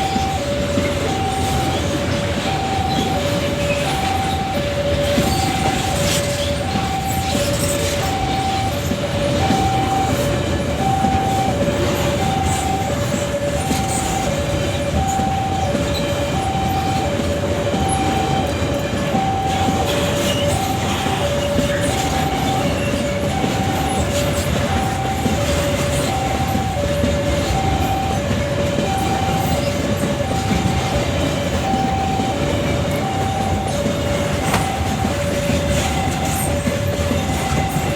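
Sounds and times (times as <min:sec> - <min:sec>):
train rumbling past: 0:00.0 - 0:37.9
two-tone electronic warning alarm: 0:00.0 - 0:37.9.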